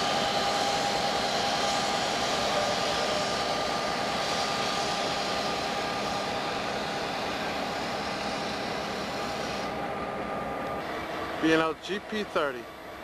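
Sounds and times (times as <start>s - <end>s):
diesel locomotive rolling past: 0.0s - 13.0s.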